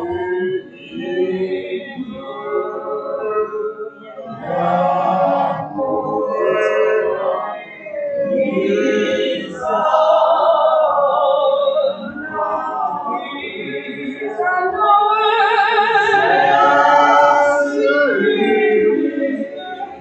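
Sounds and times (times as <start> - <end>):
congregation singing a hymn: 0.0 - 20.0.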